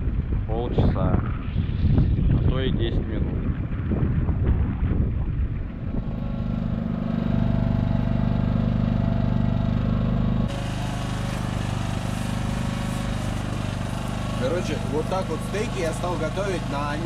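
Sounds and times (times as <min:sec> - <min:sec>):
small engine running: 0:03.2 - 0:17.0.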